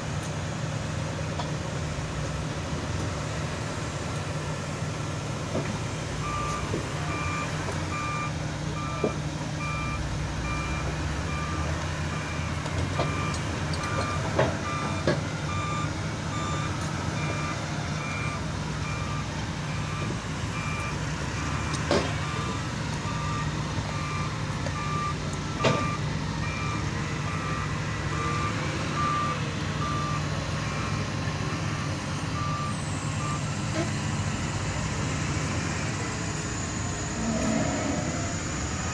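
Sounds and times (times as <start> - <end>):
diesel engine rumble: 0.0 - 38.9
reversing alarm beeping: 6.2 - 38.9.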